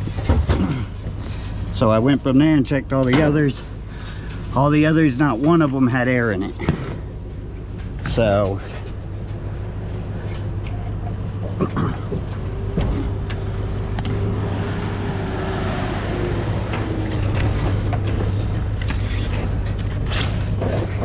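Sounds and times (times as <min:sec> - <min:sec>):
truck engine idling: 0:00.0 - 0:20.6.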